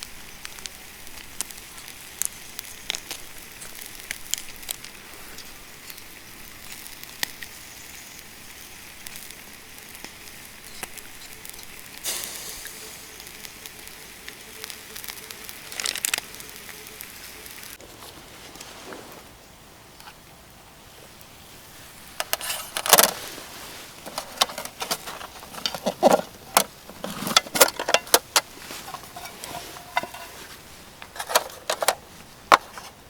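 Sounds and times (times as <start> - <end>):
campfire crackling: 0.0 - 33.0
steady hiss of fire: 0.0 - 33.0.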